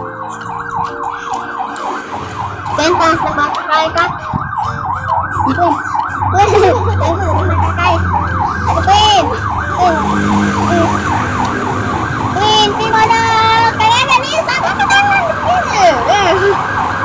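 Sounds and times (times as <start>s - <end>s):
rapidly warbling siren: 0.0s - 17.0s.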